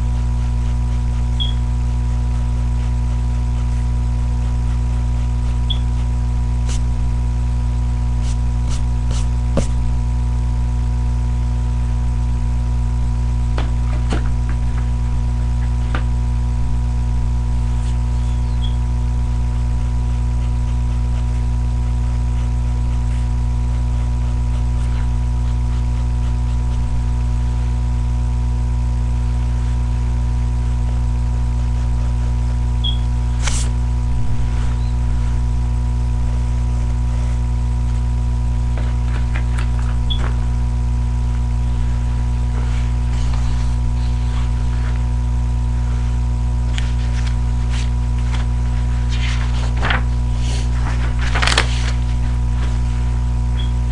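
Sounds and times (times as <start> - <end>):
low hum with fixed tones: 0.0 - 53.9.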